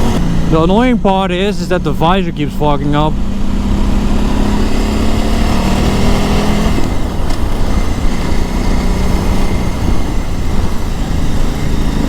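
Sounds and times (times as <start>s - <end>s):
constant low rumble: 0.0s - 12.0s
motorcycle engine running: 0.0s - 12.0s.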